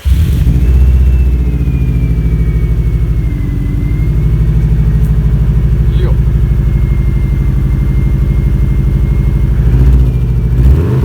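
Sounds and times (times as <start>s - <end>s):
faint high whine: 0.0s - 10.4s
car engine starting and idling: 0.0s - 11.0s.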